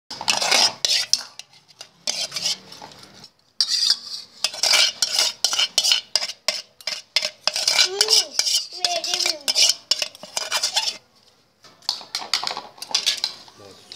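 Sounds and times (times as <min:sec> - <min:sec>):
fork scraping a metal bowl: 0:00.1 - 0:11.1, 0:12.4 - 0:13.5.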